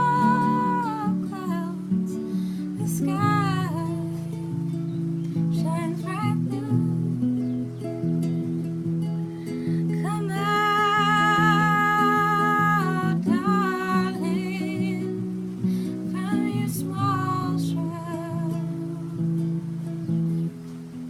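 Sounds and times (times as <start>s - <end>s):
woman singing: 0.0s - 7.8s, 9.7s - 19.9s
acoustic guitar playing: 0.0s - 21.0s.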